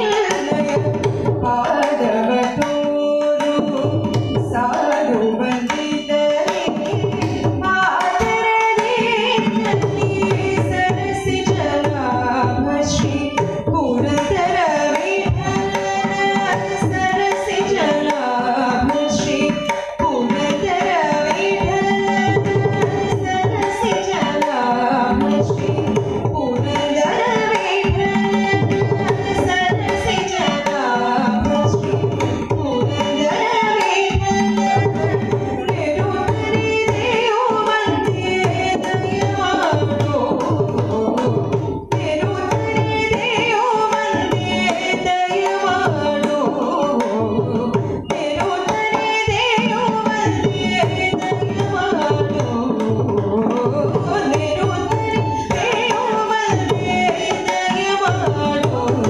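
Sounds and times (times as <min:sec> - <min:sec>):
violin accompaniment: 0:00.0 - 0:59.0
woman singing: 0:00.0 - 0:59.0.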